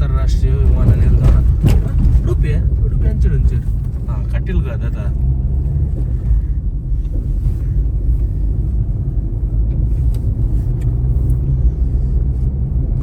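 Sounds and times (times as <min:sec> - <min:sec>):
vehicle driving rumble: 0:00.0 - 0:13.0.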